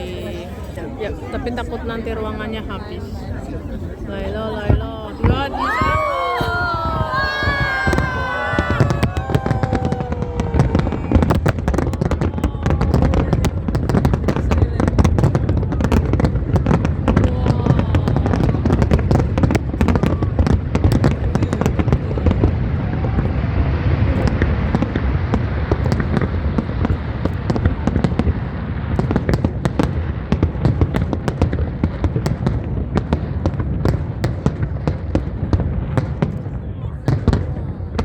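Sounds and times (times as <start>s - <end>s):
fireworks bangs and crackles: 1.4s - 38.0s.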